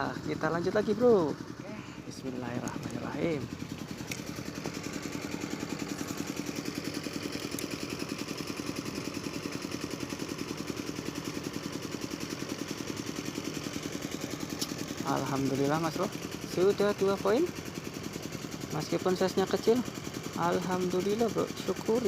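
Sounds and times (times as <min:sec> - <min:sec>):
small engine idling: 0:00.0 - 0:22.0.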